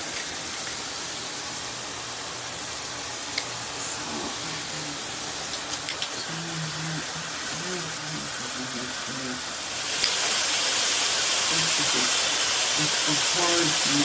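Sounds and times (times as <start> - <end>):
shower head spraying water: 0.0 - 14.0.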